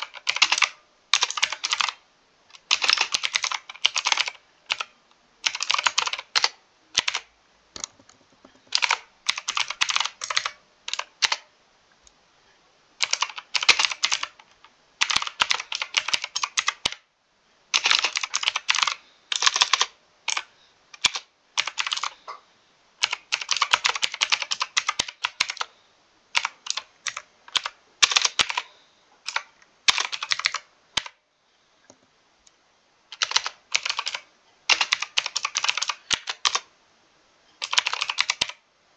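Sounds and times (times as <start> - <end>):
mechanical keyboard typing: 0.0 - 11.5, 13.0 - 17.1, 17.7 - 22.2, 23.0 - 25.7, 26.4 - 31.2, 33.1 - 36.7, 37.6 - 38.6.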